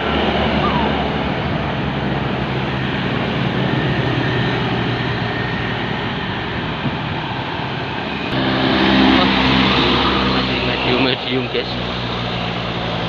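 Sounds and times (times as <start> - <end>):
dense traffic noise: 0.0 - 13.0
heavy vehicle engine passing: 0.0 - 13.0.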